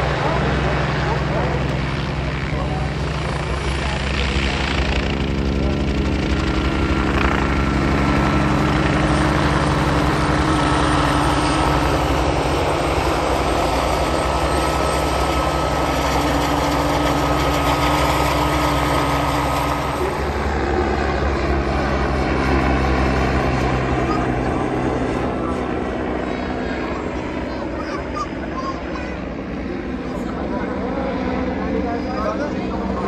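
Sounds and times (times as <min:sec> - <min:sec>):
helicopters flying low: 0:00.0 - 0:33.0.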